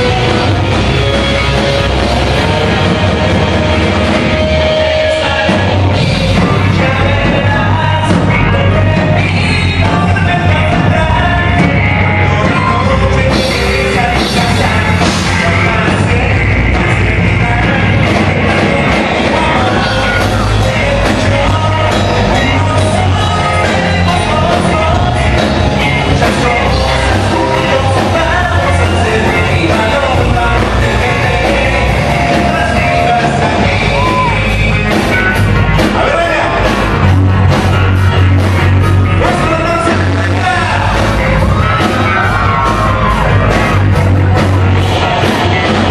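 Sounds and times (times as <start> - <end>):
person singing: 0.0 - 45.9
rock band playing: 0.0 - 45.9.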